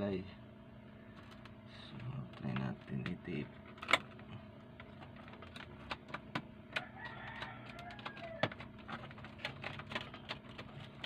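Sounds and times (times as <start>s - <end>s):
clicks and taps handling wires: 1.2s - 11.0s.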